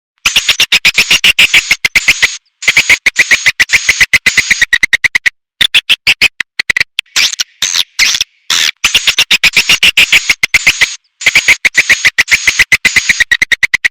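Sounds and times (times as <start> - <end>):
fast sharp clicks: 0.2 - 13.9.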